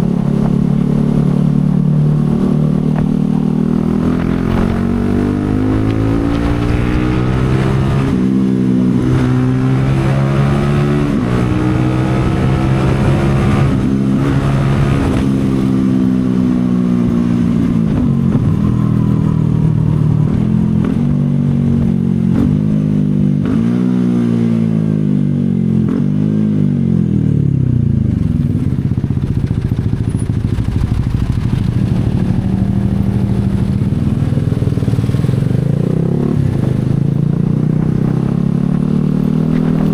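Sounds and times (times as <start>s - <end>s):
motorcycle engine shifting gears: 0.0s - 24.9s, 27.4s - 39.9s.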